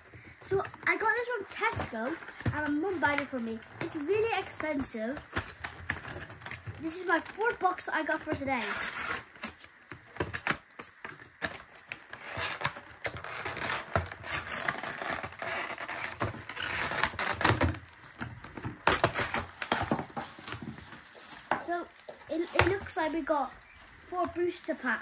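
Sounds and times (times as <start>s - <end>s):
cardboard tearing: 0.5s - 24.9s.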